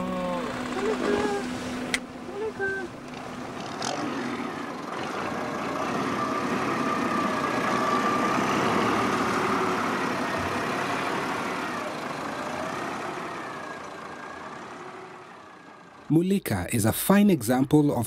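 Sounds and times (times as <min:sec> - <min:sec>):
diesel tractor engine passing: 0:00.0 - 0:16.8.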